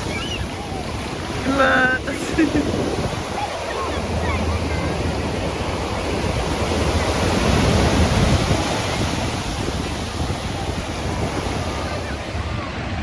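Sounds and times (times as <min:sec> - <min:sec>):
ocean surf washing in: 0:00.0 - 0:13.0
wind buffeting microphone: 0:00.0 - 0:13.0.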